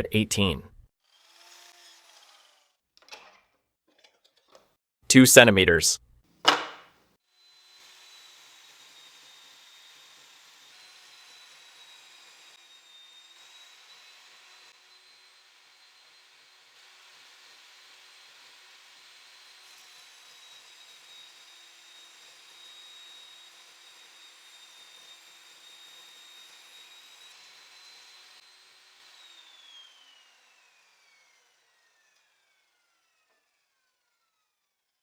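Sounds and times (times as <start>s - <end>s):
circular saw cutting wood: 1.0s - 2.8s, 7.4s - 34.5s.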